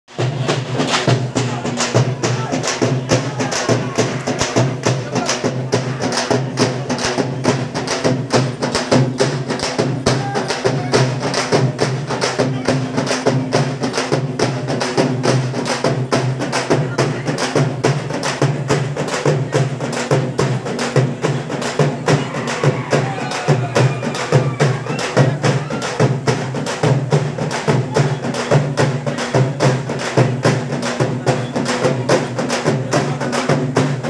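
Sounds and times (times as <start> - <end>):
large drums beaten with sticks: 0.1 - 34.0.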